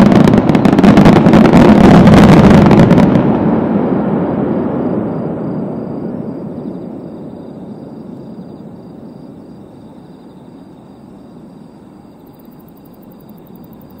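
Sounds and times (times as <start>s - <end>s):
distant fireworks rumble: 0.0s - 14.0s.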